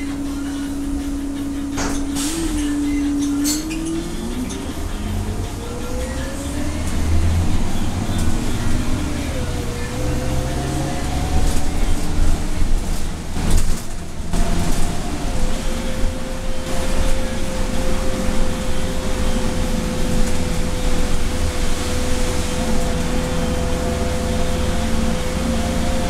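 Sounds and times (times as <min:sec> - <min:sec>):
bus engine rumble: 0:00.0 - 0:26.0
steady whine: 0:00.0 - 0:26.0
tyre noise on wet street: 0:00.0 - 0:26.0.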